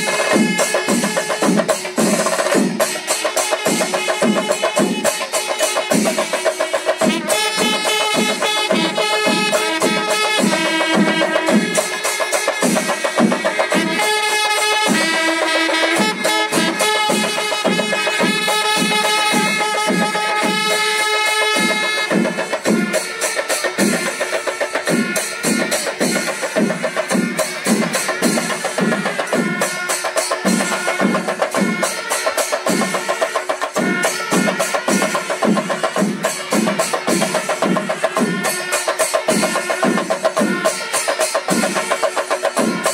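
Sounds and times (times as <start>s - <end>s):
cymbals clashing: 0.0s - 42.9s
ensemble of drums beating: 0.0s - 42.9s.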